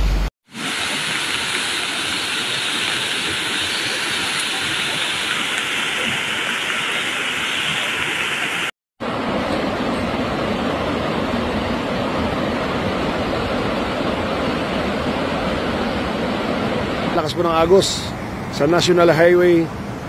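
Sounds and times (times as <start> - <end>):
rushing floodwater: 0.5 - 20.0.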